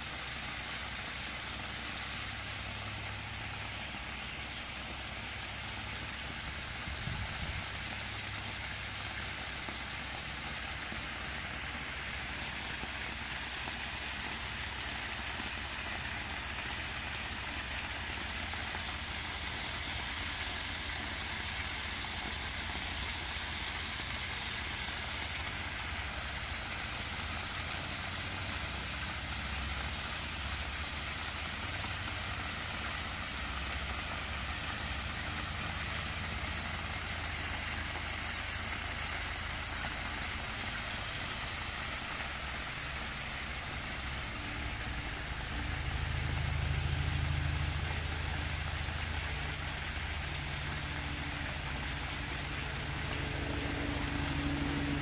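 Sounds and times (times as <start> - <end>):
waterfall splashing into basin: 0.0 - 55.0.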